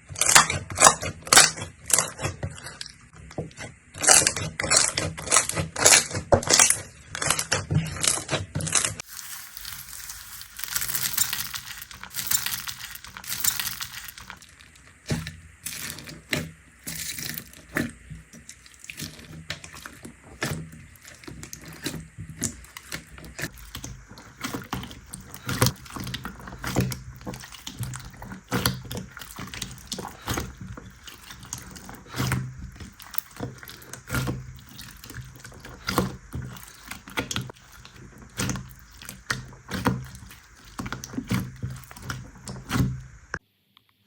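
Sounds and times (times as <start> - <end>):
slime squelching: 0.0 - 43.4.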